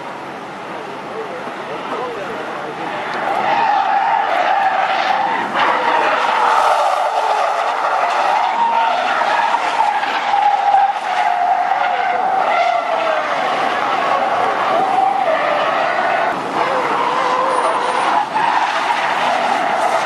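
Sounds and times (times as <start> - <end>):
car engine running hard: 0.0 - 20.0
car tyres squealing: 1.2 - 20.0.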